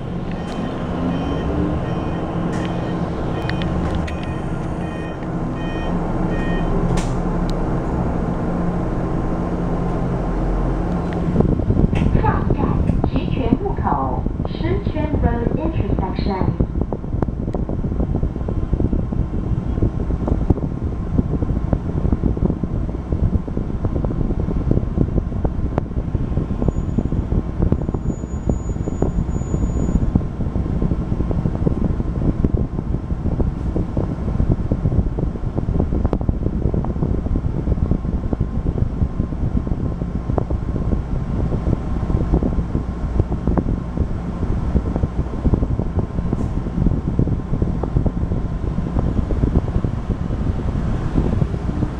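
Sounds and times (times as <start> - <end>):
bus tyre and drivetrain rumble: 0.0 - 51.9.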